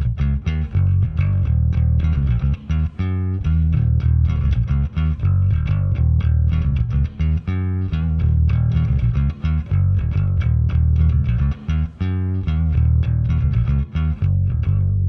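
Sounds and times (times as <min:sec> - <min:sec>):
electric bass riff: 0:00.0 - 0:15.0.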